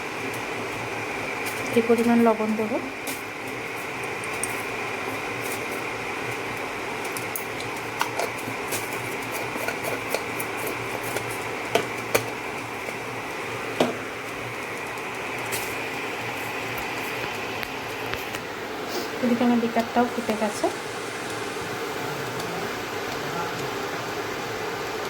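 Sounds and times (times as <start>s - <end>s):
cooktop hum: 0.0s - 25.0s.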